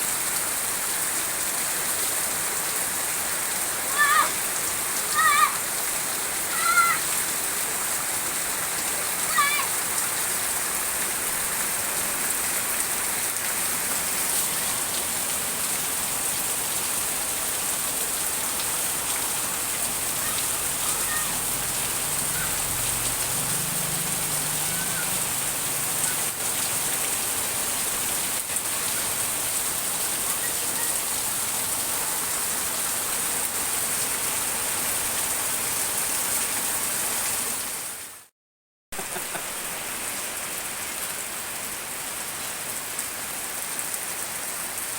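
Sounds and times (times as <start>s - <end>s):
heavy rain pouring: 0.0s - 38.2s, 39.0s - 44.9s.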